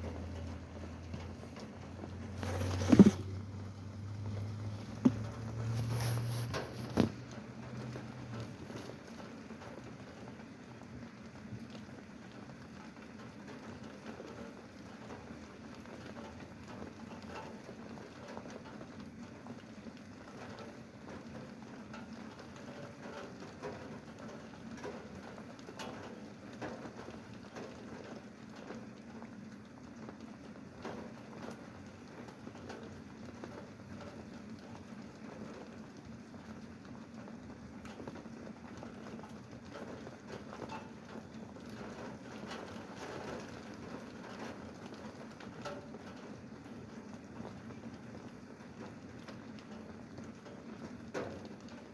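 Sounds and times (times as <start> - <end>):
steady rain falling: 0.0 - 51.9
raindrop ticks: 3.3 - 51.9.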